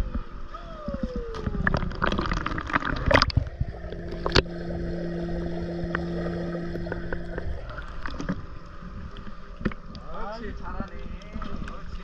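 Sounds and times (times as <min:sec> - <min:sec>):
muffled underwater sound: 0:00.0 - 0:12.0
pool water lapping and splashing: 0:00.0 - 0:12.0
steady low hum: 0:00.2 - 0:12.0.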